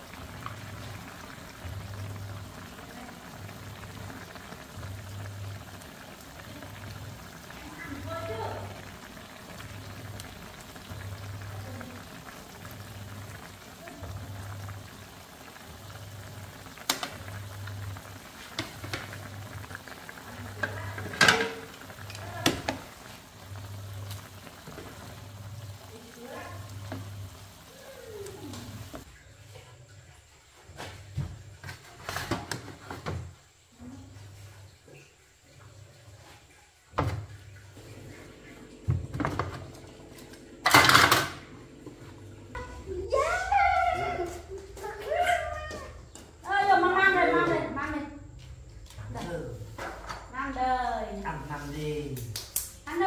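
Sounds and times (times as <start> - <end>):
food cooking in a pot: 0.0 - 53.0.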